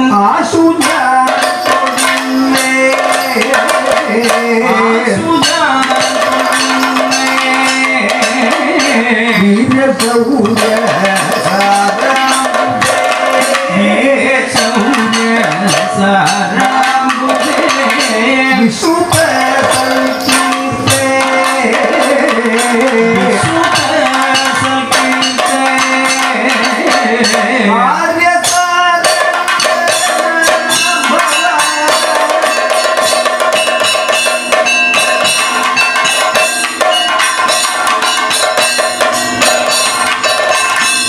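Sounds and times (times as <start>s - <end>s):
rapid hand drum strokes: 0.0s - 41.0s.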